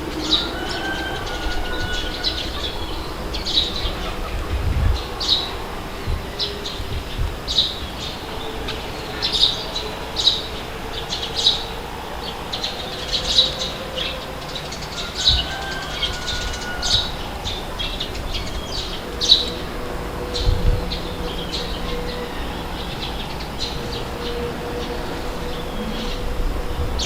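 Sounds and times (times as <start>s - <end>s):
birds chirping: 0.0s - 27.0s
low wind rumble: 0.0s - 27.0s.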